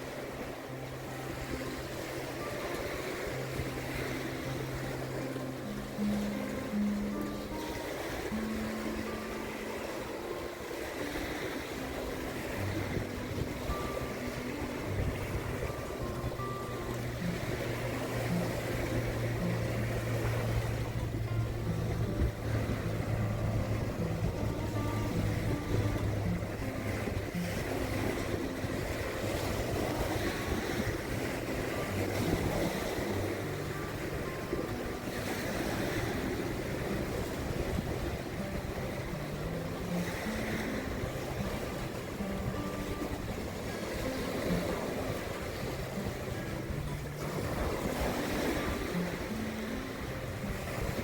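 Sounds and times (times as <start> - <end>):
background music: 0.0 - 51.0
small waves washing on sand: 0.0 - 51.0
wind noise: 9.0 - 51.0.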